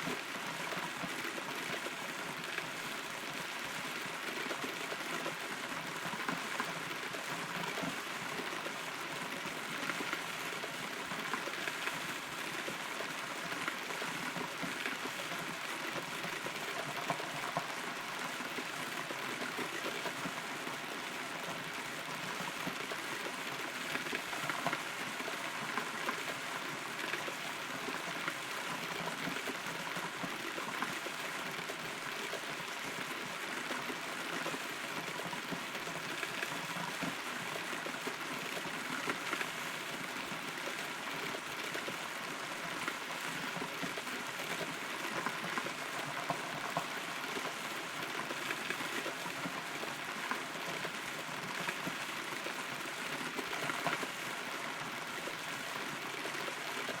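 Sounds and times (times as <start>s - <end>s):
rain drops ticking on wood: 0.1s - 57.0s.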